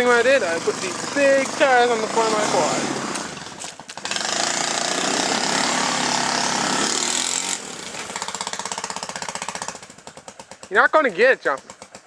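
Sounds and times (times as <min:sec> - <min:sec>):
atv engine revving: 0:00.0 - 0:12.0.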